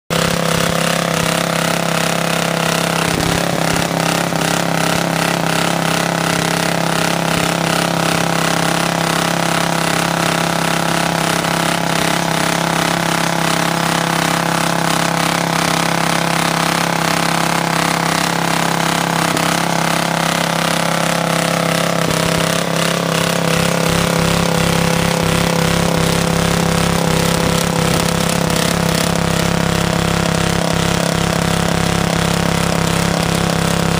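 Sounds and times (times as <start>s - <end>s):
rototiller engine running: 0.0s - 33.9s.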